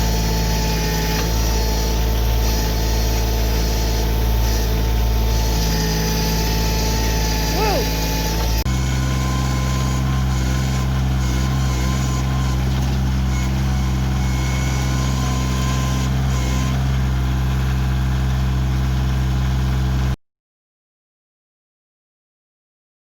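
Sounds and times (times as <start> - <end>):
tractor diesel engine running: 0.0 - 20.2.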